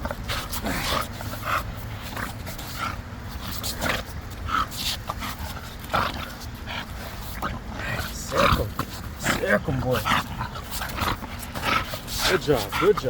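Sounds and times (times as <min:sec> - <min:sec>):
dog making throaty noises: 0:00.0 - 0:13.0.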